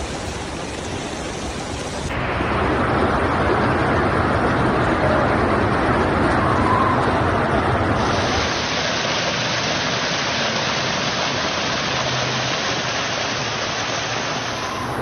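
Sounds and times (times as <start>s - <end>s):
rainstorm: 0.0s - 15.0s
running water: 0.0s - 15.0s.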